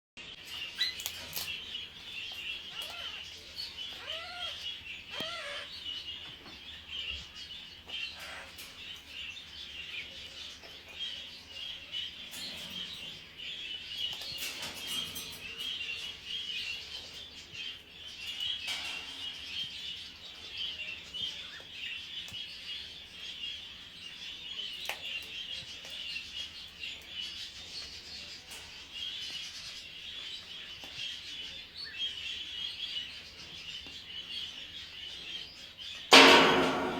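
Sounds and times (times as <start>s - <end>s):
small birds chirping: 0.2s - 36.9s.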